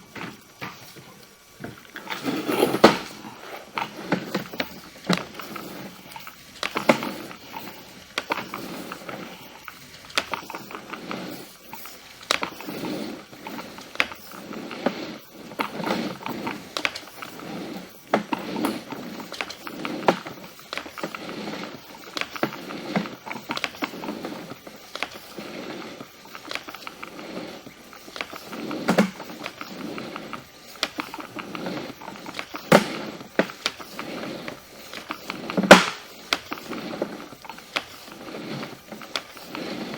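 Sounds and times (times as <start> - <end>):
cable reel knocking and clicking: 1.6 - 39.9.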